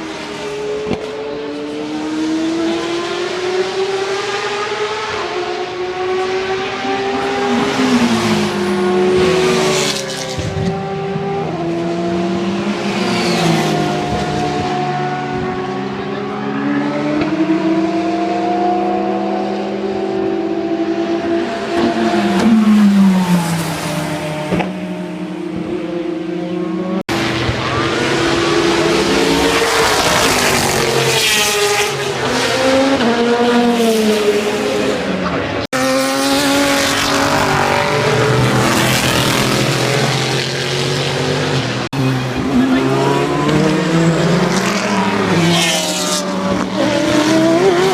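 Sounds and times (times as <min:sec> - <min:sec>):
race car engines passing: 0:00.0 - 0:47.9.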